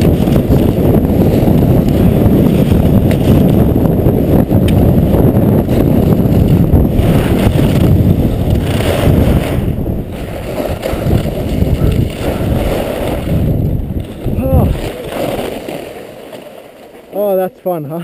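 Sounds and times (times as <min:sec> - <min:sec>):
wind rushing over microphone: 0:00.0 - 0:16.2
ski edges scraping hard snow: 0:00.0 - 0:17.8.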